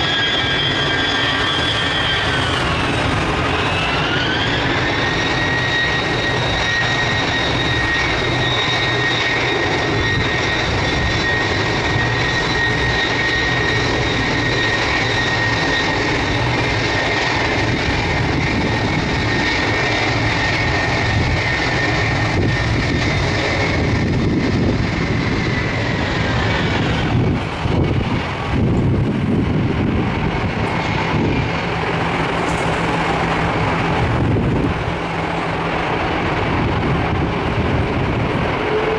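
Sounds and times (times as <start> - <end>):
jet engine rumble: 0.0 - 38.9
jet turbine whine: 0.0 - 38.9.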